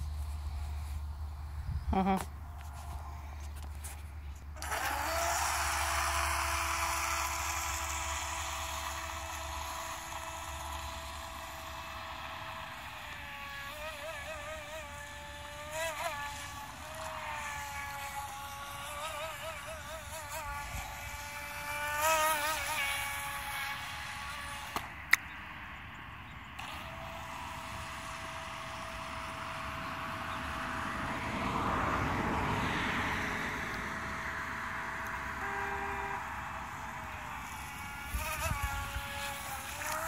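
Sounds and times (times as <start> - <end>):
small electric motor whining: 0.0 - 40.0.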